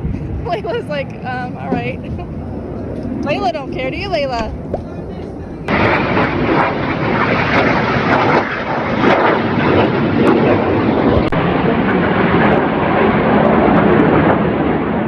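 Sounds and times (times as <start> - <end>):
jets flying over: 0.0 - 15.0.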